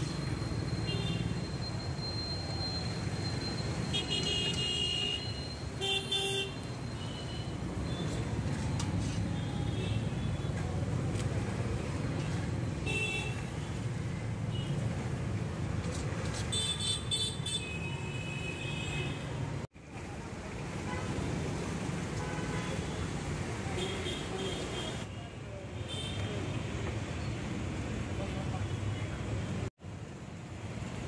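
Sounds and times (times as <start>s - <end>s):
street traffic passing: 0.0s - 31.0s.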